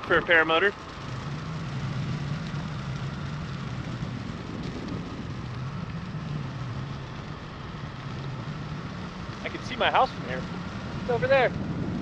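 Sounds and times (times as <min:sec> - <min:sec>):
low even drone: 0:00.0 - 0:12.0
wind rushing over microphone: 0:00.0 - 0:12.0.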